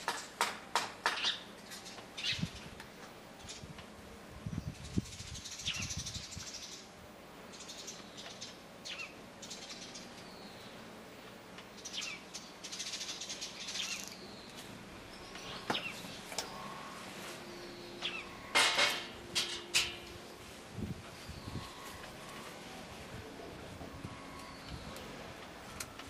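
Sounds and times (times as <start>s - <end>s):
sparrows chirping: 1.0s - 2.8s, 4.6s - 22.6s, 24.0s - 25.9s.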